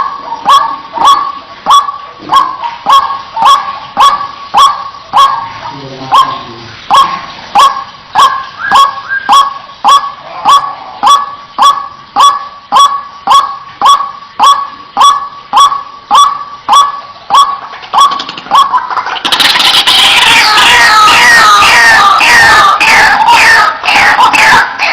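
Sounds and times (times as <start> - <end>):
overlapping bird calls: 0.0 - 24.9
waterhen calling: 0.0 - 24.9.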